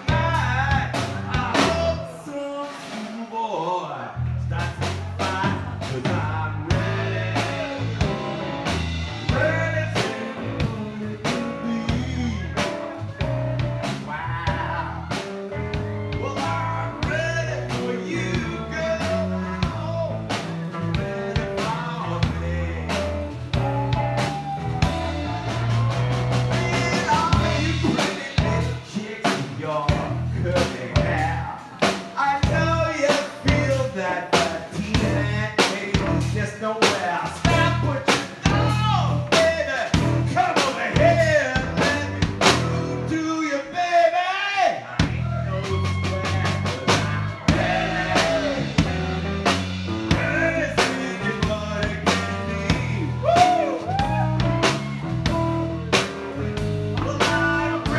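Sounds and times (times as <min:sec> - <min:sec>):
live blues band playing: 0:00.0 - 0:57.9.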